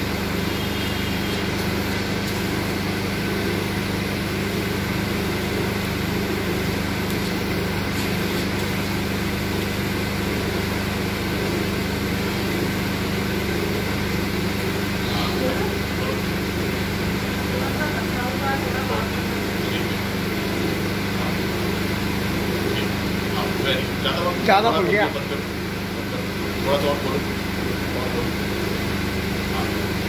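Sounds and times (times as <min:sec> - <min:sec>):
machine hum with whirring: 0:00.0 - 0:30.0.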